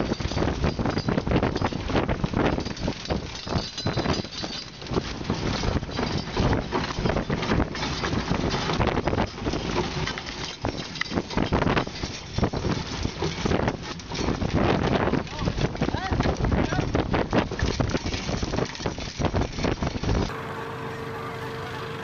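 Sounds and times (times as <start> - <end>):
wind buffeting microphone: 0.0 - 9.8, 10.6 - 20.3.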